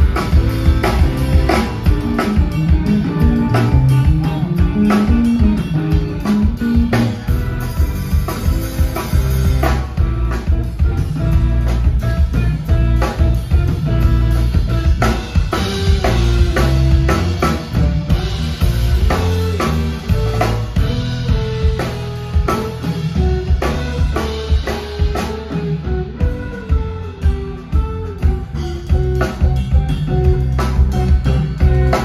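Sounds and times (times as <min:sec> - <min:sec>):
rock band playing instrumental: 0:00.0 - 0:32.0.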